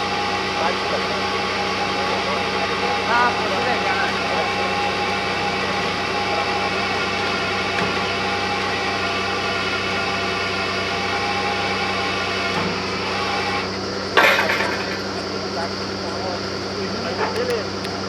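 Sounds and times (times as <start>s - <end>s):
drilling machine motor running: 0.0s - 18.0s.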